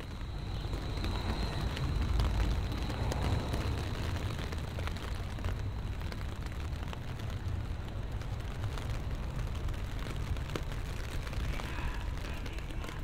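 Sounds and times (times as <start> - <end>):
raindrops ticking: 0.0 - 13.0
steady low rumble: 0.0 - 13.0.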